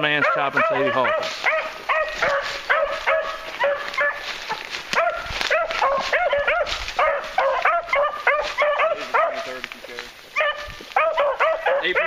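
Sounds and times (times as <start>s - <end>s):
hounds yelping barks: 0.0s - 12.0s.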